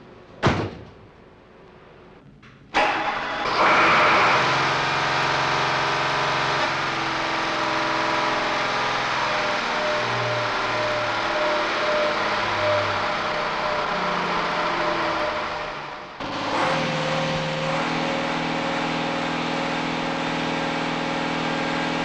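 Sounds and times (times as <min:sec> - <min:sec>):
diesel engine running at high revs: 0:02.8 - 0:22.0.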